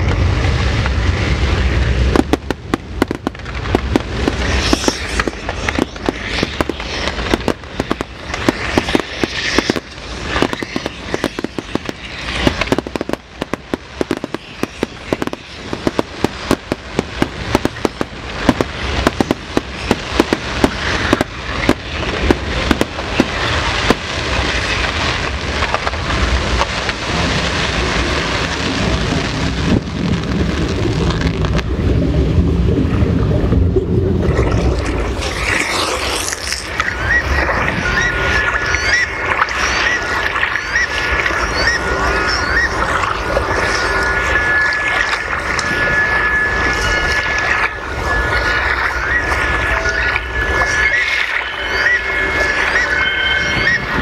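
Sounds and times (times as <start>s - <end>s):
fireworks bangs and crackles: 0.0s - 54.0s
hissing rush: 0.0s - 54.0s.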